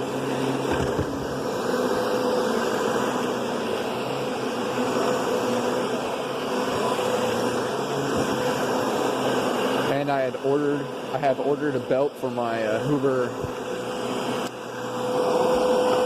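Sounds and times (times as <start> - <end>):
canister vacuum running: 0.0 - 16.0.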